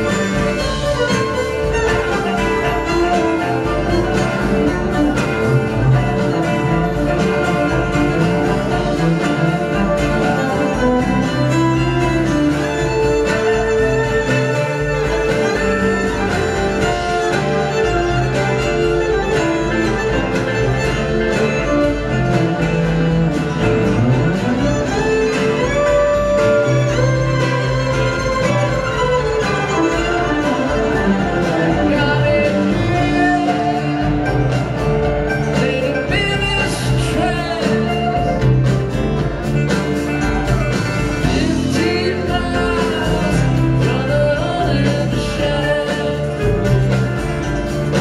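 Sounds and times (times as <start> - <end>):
electric bass: 0.0 - 48.0
fiddle: 0.0 - 48.0.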